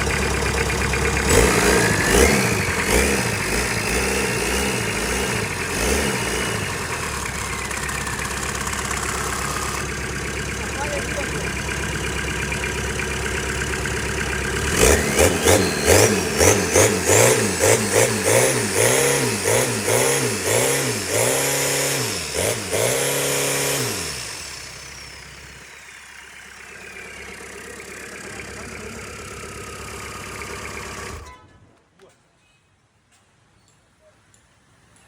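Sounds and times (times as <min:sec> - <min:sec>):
diesel engine revving: 0:00.0 - 0:31.3.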